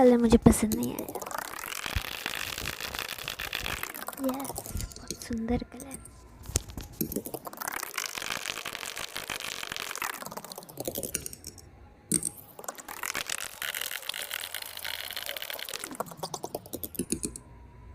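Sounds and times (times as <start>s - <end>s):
thick wet paint being mixed: 0.7s - 17.4s.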